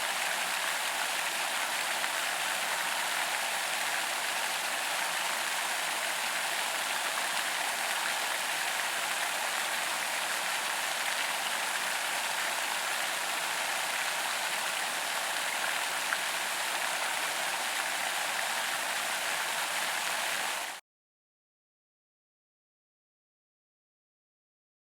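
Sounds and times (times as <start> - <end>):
fountain spray splashing on pond: 0.0 - 20.8.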